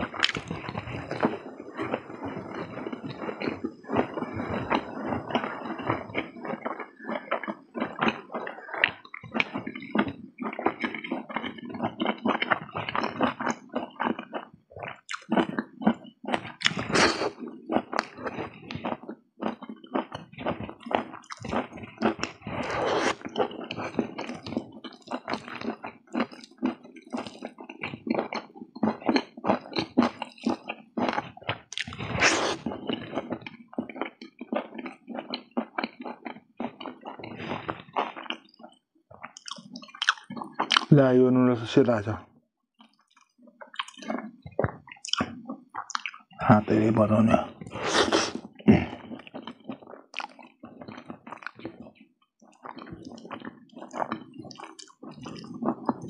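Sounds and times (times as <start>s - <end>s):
wet chewing smacks: 0.1s - 40.9s, 42.8s - 46.4s, 47.6s - 56.0s.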